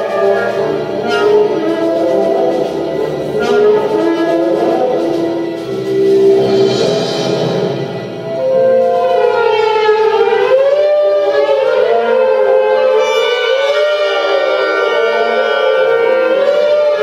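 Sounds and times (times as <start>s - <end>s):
contemporary orchestral music: 0.0s - 17.0s.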